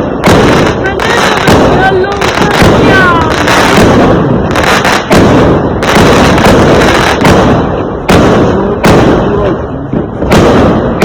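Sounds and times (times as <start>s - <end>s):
firecrackers crackling: 0.0s - 11.0s
loud fireworks bangs: 0.0s - 11.0s.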